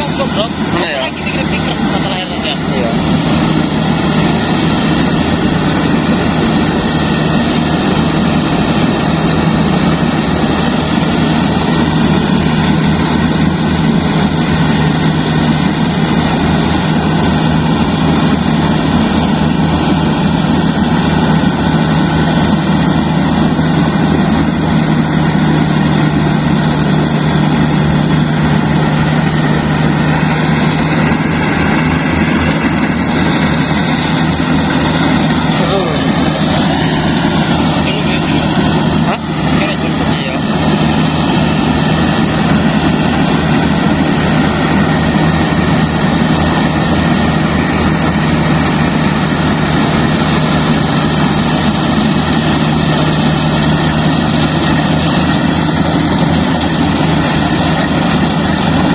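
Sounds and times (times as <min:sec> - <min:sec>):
combine harvester diesel engine running: 0:00.0 - 0:58.9.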